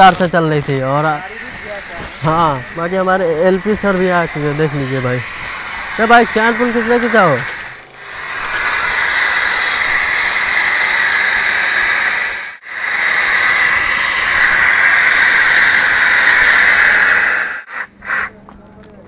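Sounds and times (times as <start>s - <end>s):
compressed air hissing: 0.0s - 18.5s.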